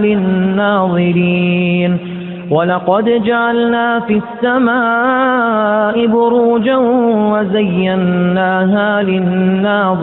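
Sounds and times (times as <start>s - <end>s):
person reciting melodically: 0.0s - 10.0s.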